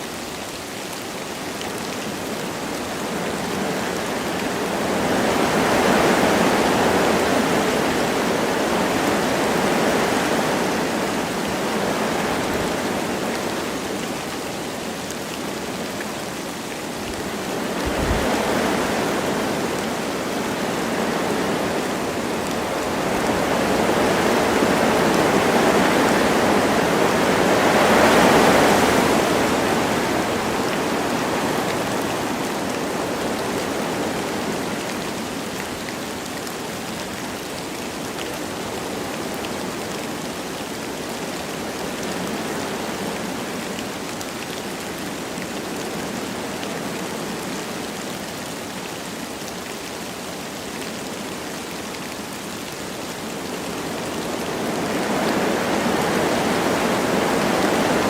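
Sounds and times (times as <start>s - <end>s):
light rain: 0.0s - 58.0s
wind rushing through trees: 0.0s - 58.0s.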